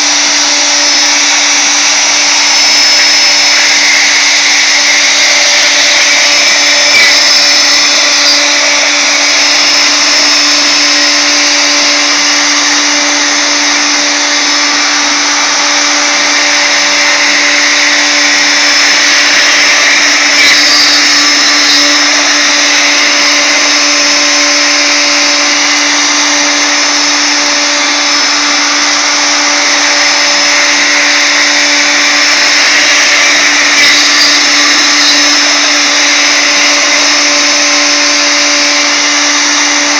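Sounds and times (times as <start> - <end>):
bit cutting wood: 0.0 - 39.9
router spindle whining: 0.0 - 39.9.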